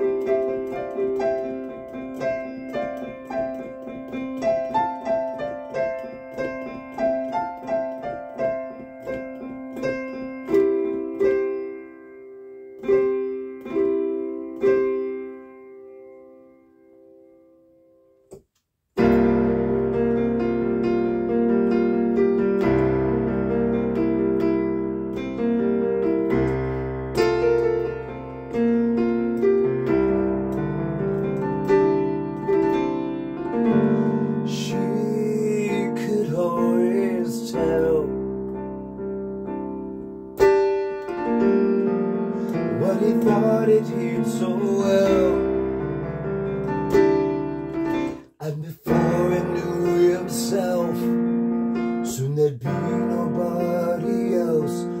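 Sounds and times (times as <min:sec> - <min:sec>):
electronic keyboard piano music: 0:00.0 - 0:55.0.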